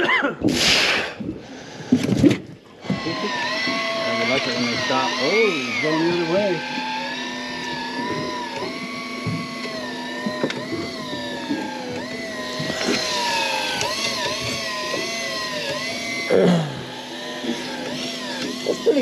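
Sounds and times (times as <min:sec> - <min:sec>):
fishing reel motor whining: 0:02.7 - 0:19.0.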